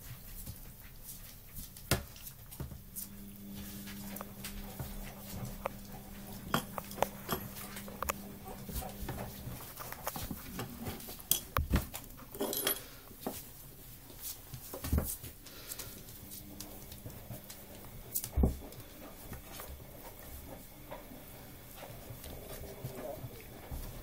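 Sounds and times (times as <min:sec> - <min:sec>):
puppies shuffling on bedding: 0:00.0 - 0:12.3, 0:12.9 - 0:24.0.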